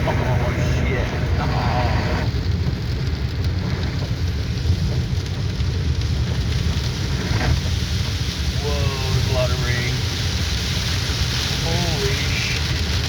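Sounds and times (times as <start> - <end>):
rain pattering on car roof: 0.0 - 13.0
road and engine rumble: 0.0 - 13.0.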